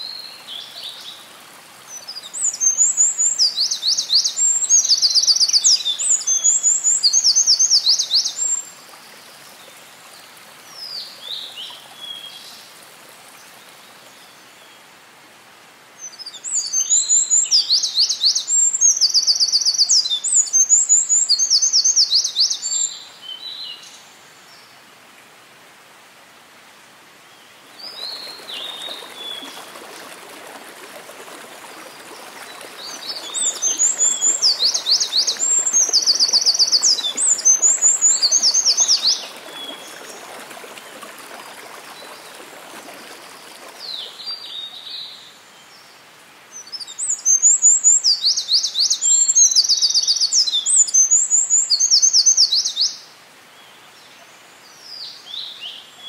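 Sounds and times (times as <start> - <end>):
mountain stream running: 0.0 - 56.0.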